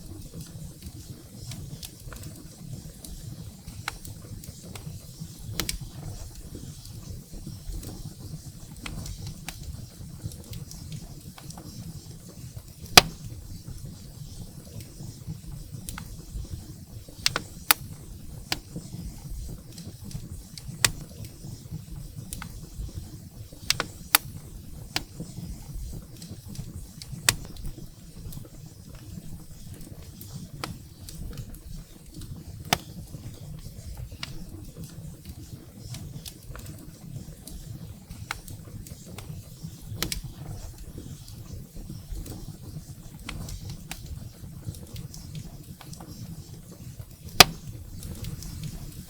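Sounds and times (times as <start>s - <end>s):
firewood crackling and popping: 0.0s - 49.0s.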